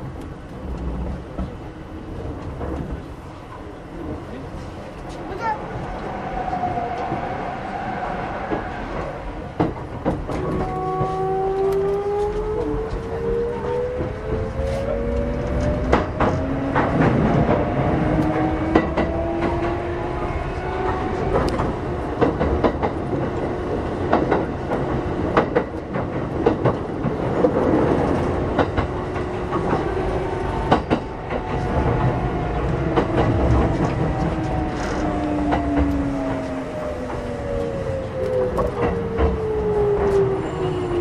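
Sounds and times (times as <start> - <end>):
train running rumble: 0.0 - 41.0
wheels clacking over rail joints: 0.0 - 41.0.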